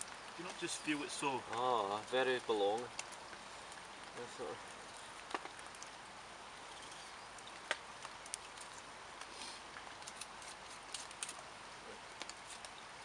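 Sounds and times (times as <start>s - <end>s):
campfire crackling: 0.0s - 13.0s
fire popping: 0.0s - 13.0s.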